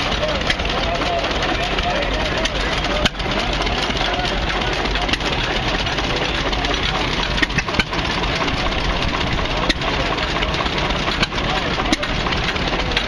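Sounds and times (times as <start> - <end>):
engines running: 0.0 - 13.0.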